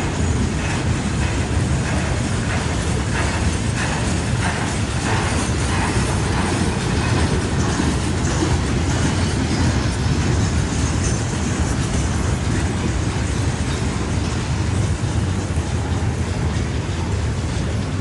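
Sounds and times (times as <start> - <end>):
freight train wheels rumbling on track: 0.0 - 18.0.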